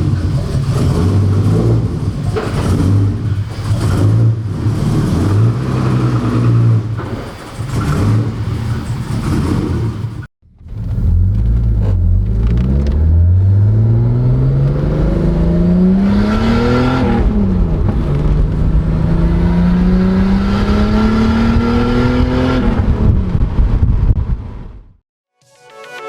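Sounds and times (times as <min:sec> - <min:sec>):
car engine accelerating hard: 0:00.0 - 0:23.6.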